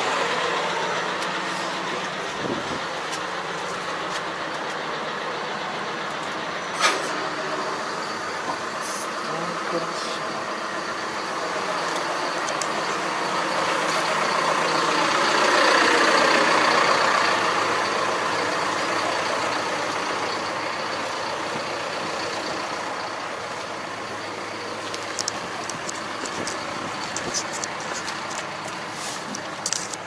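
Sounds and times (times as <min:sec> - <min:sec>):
large engine running: 0:00.0 - 0:30.0.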